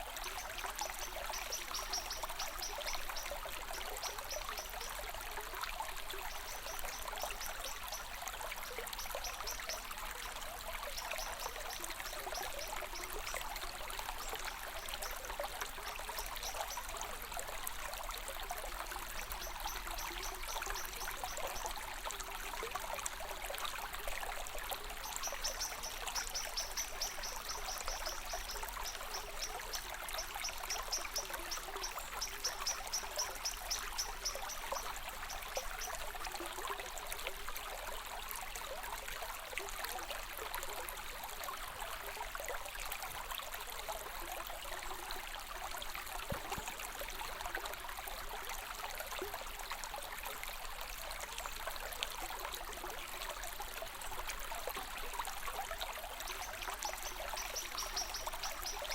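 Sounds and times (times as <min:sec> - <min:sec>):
stream water trickling: 0:00.0 - 0:58.9.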